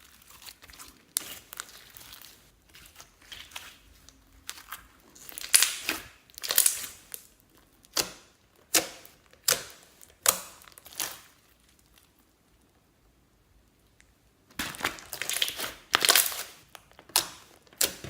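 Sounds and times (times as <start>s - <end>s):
slime squelching by hand: 0.0s - 12.7s, 13.9s - 18.0s.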